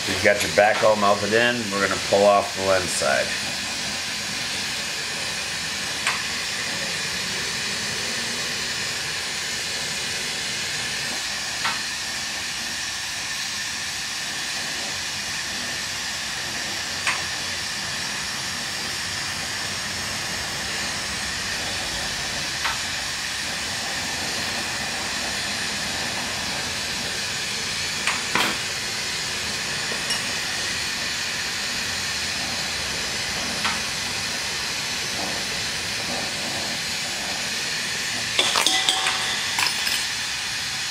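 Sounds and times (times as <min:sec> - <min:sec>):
torch flame hissing: 0:00.0 - 0:40.9.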